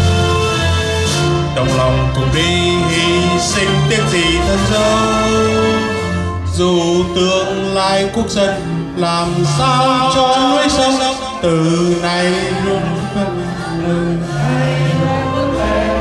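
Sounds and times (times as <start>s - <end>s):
anthem sung over loudspeakers: 1.4s - 16.0s.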